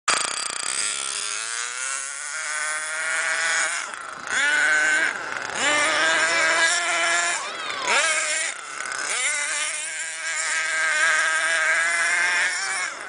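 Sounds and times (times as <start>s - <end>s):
small engine high buzzing whine: 0.1s - 13.0s.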